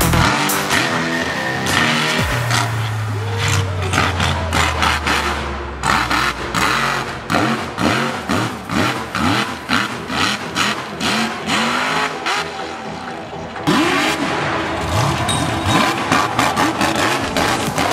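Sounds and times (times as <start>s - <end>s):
truck engine revving: 0.0s - 17.9s.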